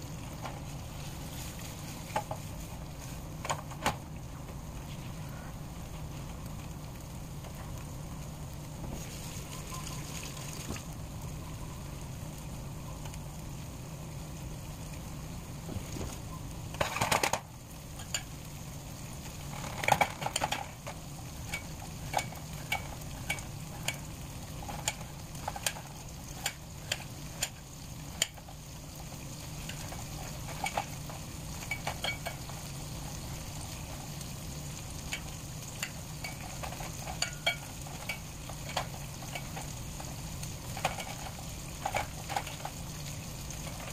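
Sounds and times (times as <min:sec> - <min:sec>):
sausage sizzling in a pan: 0:00.0 - 0:43.9.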